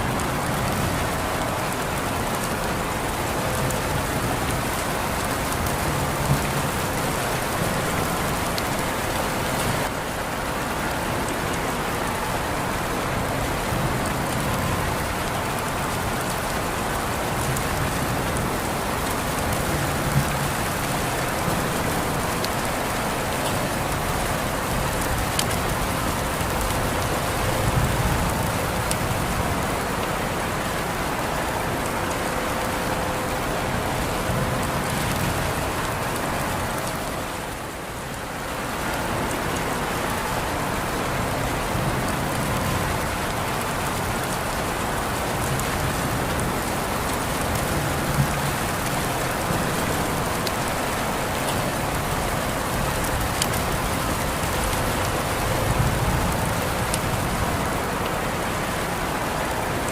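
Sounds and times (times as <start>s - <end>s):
raindrop ticks: 0.0s - 9.9s, 10.5s - 30.1s, 31.8s - 58.9s
steady rain falling: 0.0s - 59.9s.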